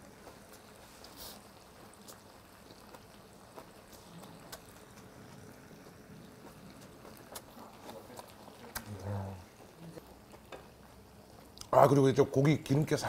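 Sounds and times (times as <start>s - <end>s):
chewing meat: 0.0s - 11.8s
low steady hiss: 0.0s - 13.0s.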